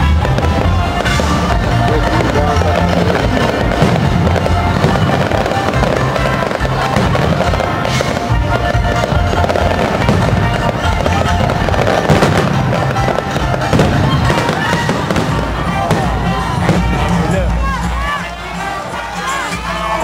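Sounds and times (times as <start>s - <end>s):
fireworks bursting and crackling: 0.0s - 20.0s
music: 0.0s - 20.0s.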